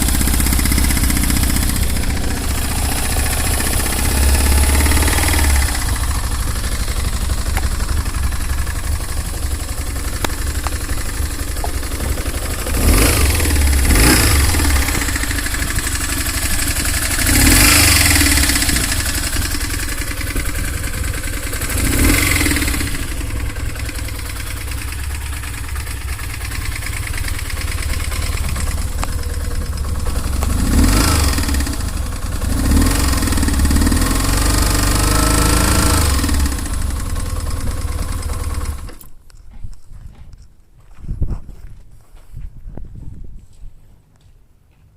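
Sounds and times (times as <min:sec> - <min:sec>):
motorcycle engine knocking: 0:00.0 - 0:39.0
motorcycle throttle blips: 0:00.0 - 0:39.2.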